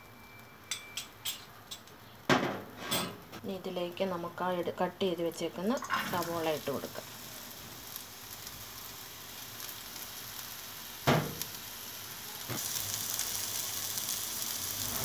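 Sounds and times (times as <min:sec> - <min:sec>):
onion sizzling in a pan: 0:00.0 - 0:15.0.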